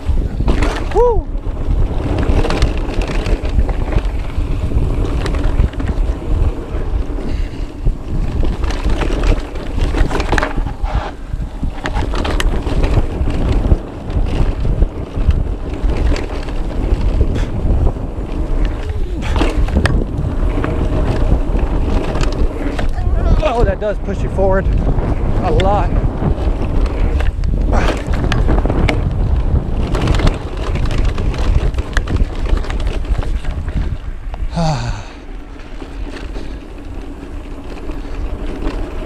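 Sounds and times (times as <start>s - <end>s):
bike rattling over bumps: 0.0s - 39.0s
bike tyres rumbling on trail: 0.0s - 39.0s
wind rushing over microphone: 0.0s - 39.0s.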